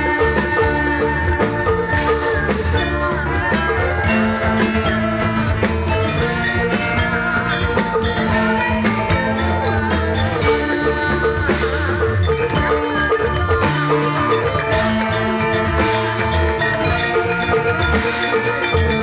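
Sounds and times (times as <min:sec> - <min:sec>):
drums: 0:00.0 - 0:19.0
tuned mallet percussion: 0:00.0 - 0:19.0.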